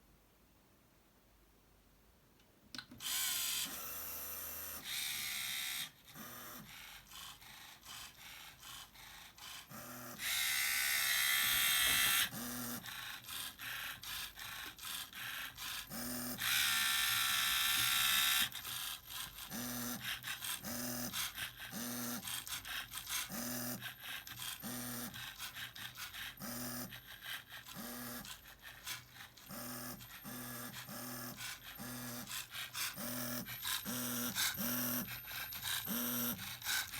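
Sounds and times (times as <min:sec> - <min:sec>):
electric motors and gears whirring: 0:03.0 - 0:36.9.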